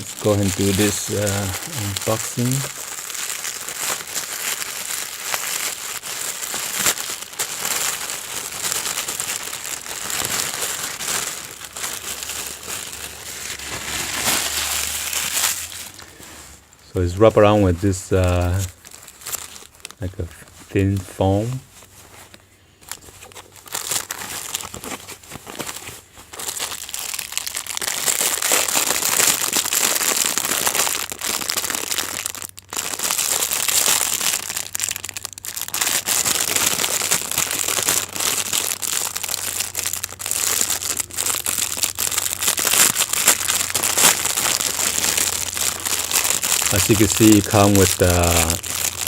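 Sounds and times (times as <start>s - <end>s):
plastic packaging crinkling: 0.0s - 49.0s.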